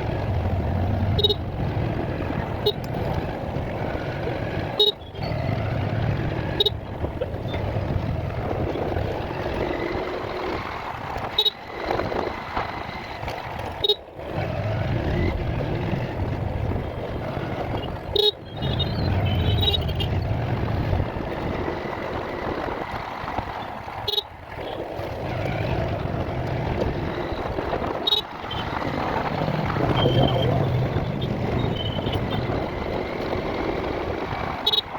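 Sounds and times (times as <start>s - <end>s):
motorcycle engine and road rumble: 0.0s - 34.9s
traffic: 0.0s - 34.9s.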